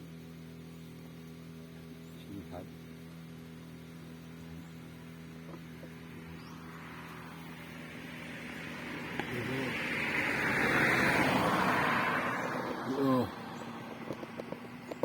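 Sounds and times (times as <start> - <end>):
road vehicle approaching: 0.0 - 15.0.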